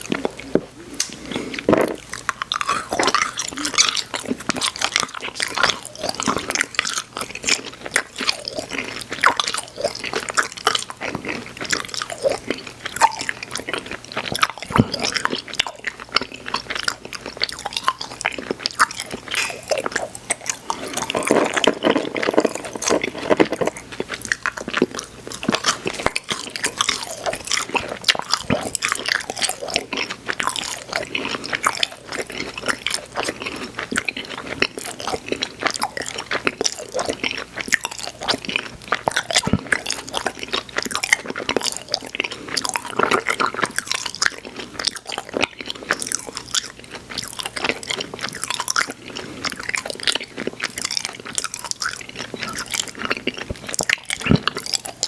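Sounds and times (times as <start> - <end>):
mouth chewing candy: 0.0 - 55.0.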